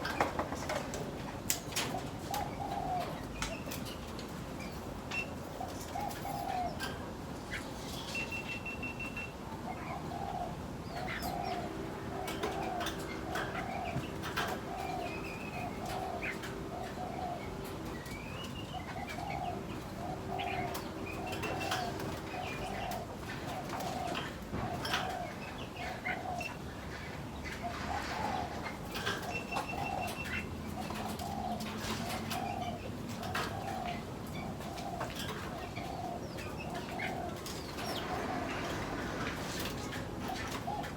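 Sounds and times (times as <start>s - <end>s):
birds chirping and clicking: 0.0s - 40.9s
dove cooing: 1.8s - 3.9s, 5.5s - 7.0s, 9.5s - 40.9s.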